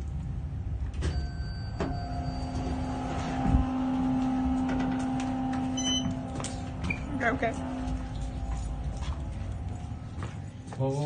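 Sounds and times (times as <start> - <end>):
elevator motor humming: 0.5 - 10.7.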